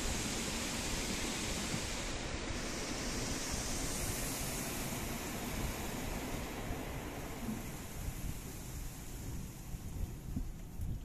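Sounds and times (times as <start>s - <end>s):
car wash water jets spraying: 0.0s - 11.0s.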